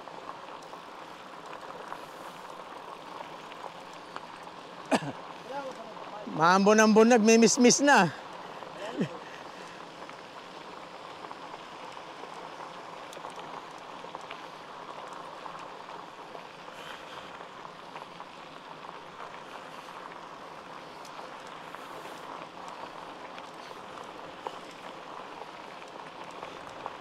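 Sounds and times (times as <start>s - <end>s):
faint ticks: 0.0s - 6.1s, 8.2s - 27.0s
bike tyres rolling: 0.0s - 27.0s
light rain hiss: 0.0s - 27.0s.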